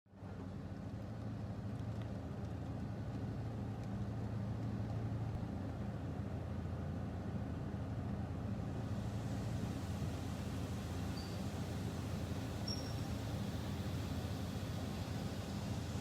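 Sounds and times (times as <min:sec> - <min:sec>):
low mechanical hum: 0:00.1 - 0:16.0.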